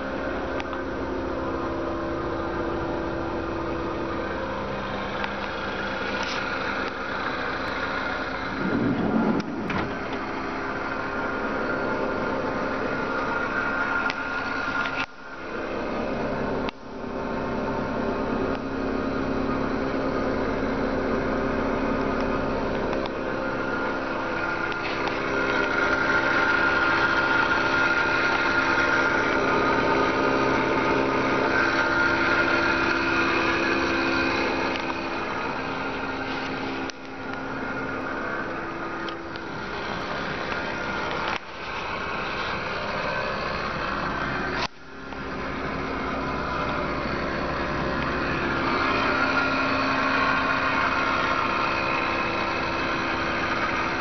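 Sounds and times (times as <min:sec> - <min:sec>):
van engine idling: 0:00.0 - 0:54.0.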